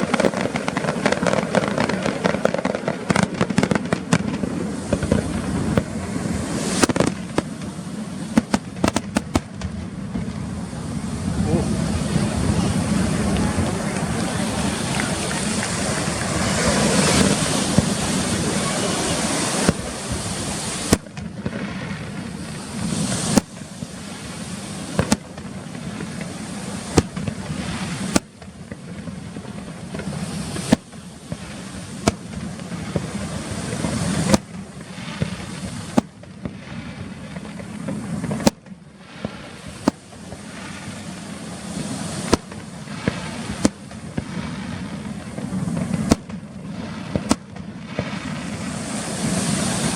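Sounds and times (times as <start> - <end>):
fireworks shells bursting: 0.0 - 10.3, 12.5 - 49.9
rumble after fireworks bangs: 0.0 - 49.9.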